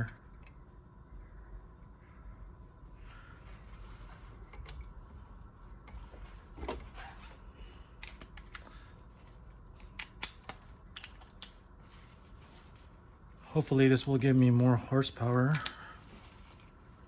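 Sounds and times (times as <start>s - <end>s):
faint low rumble: 0.0s - 17.0s.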